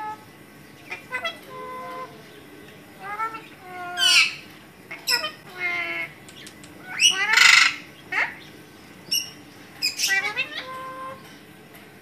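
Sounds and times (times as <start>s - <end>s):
parakeets squawking: 0.0s - 2.4s, 3.0s - 11.4s.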